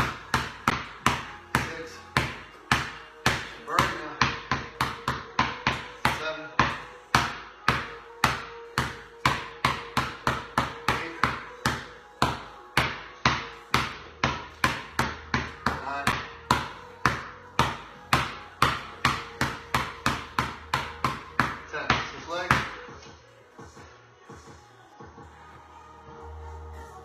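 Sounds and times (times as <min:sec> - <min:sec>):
basketball bouncing on concrete: 0:00.0 - 0:23.1.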